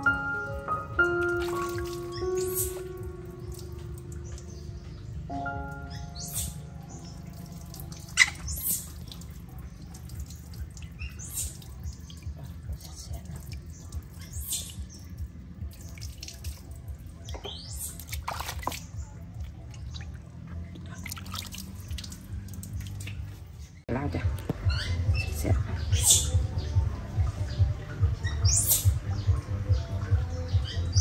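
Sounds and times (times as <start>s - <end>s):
water trickling and dripping on concrete: 0.4s - 31.0s.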